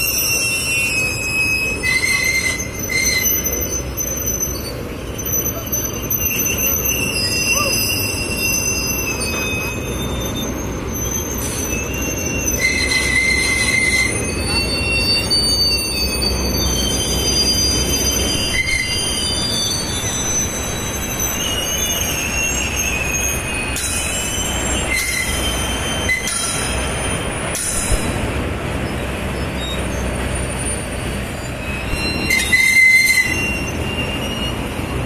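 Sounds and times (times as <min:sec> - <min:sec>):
high-pitched wheel squeals: 0:00.0 - 0:28.2, 0:28.8 - 0:35.0
rail wagons rolling rumble: 0:00.0 - 0:35.0.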